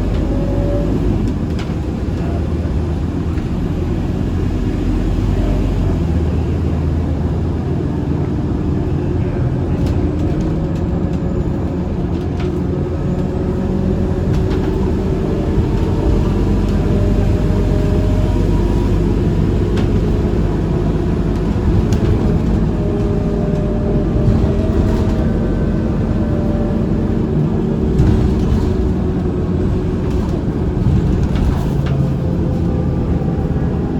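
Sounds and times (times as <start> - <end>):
bus engine humming: 0.0 - 33.9
road noise: 0.0 - 33.9.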